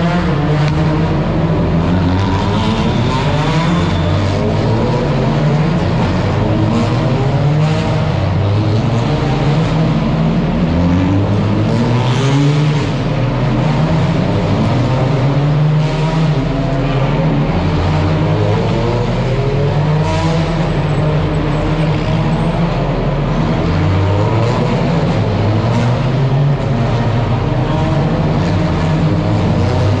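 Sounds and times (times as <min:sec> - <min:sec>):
race cars accelerating: 0:00.0 - 0:30.0.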